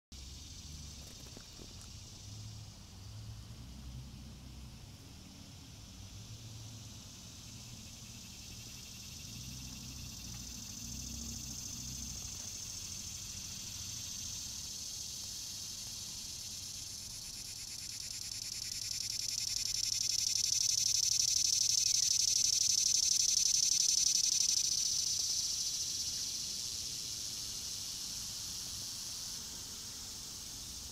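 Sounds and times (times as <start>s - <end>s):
cicada buzzing drone: 0.2s - 30.9s.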